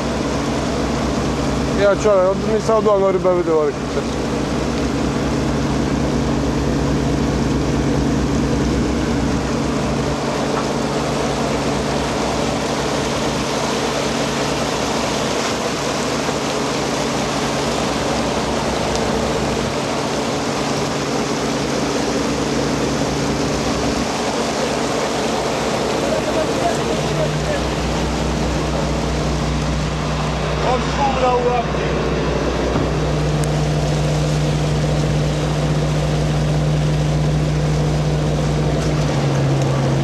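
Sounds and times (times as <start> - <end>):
diesel engines humming: 0.0 - 40.0.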